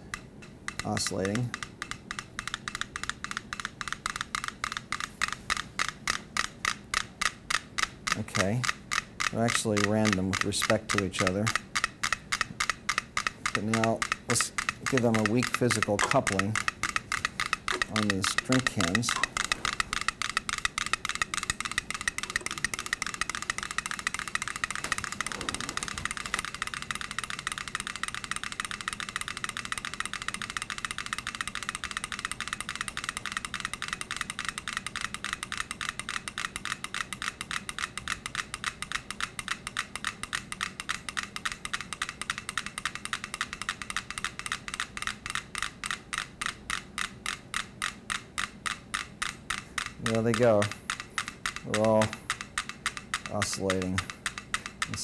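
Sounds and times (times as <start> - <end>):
metronomes ticking: 0.0 - 55.0.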